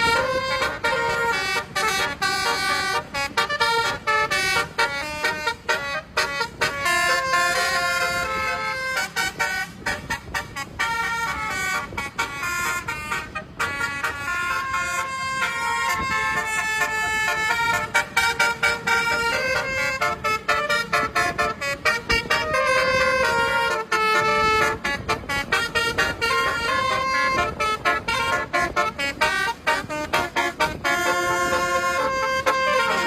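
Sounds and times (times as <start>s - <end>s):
multi-tone bus horn tune: 0.0s - 33.0s.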